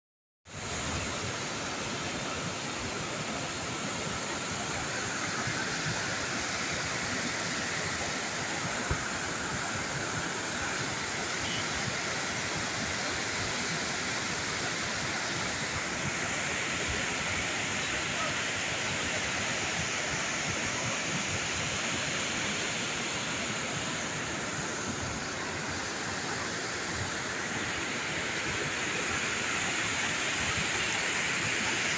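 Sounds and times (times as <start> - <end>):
waterfall pouring over rocks: 0.5 - 31.9.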